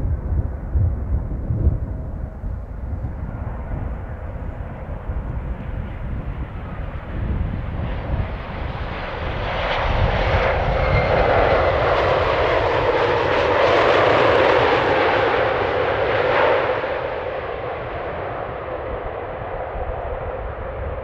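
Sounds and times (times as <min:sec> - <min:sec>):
wind rumble on microphone: 0:00.0 - 0:21.0
jet engines roaring: 0:03.0 - 0:21.0.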